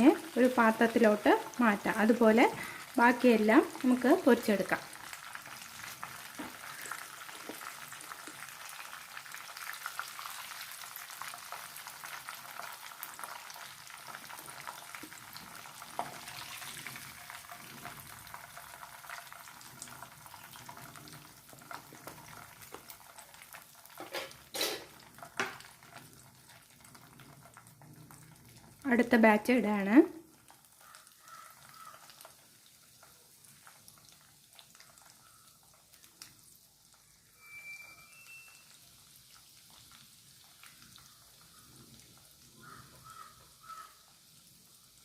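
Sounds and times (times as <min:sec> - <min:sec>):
chicken deep-frying in oil: 0:00.0 - 0:45.0.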